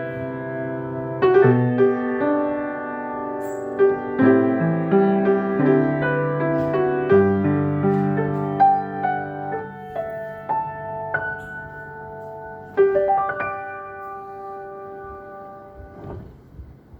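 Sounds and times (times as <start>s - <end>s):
piano playing: 0.0s - 16.4s.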